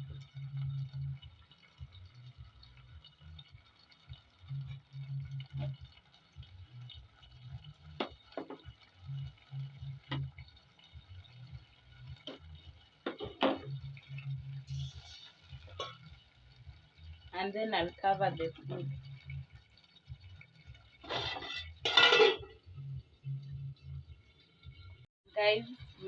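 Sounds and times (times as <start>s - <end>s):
curry simmering in a pot: 0.0s - 26.0s.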